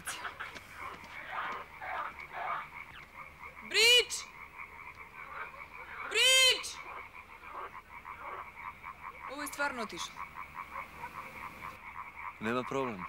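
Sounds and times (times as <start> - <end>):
short squealing calls: 0.0 - 12.0
frogs croaking: 0.0 - 13.0.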